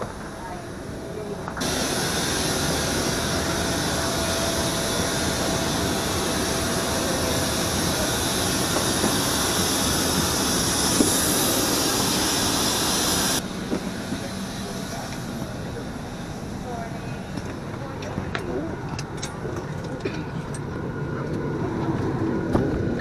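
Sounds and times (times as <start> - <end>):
aircraft air conditioning hiss: 0.0 - 23.0.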